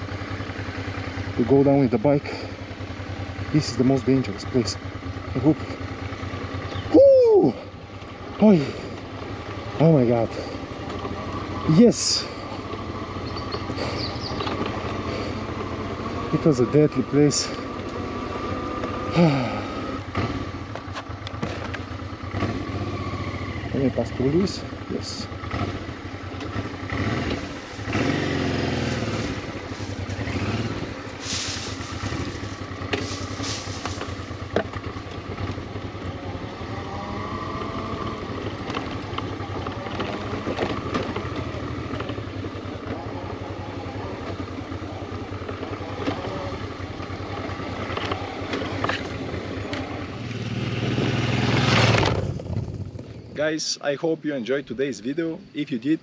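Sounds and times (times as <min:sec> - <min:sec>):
motorcycle engine revving: 0:00.0 - 0:53.6.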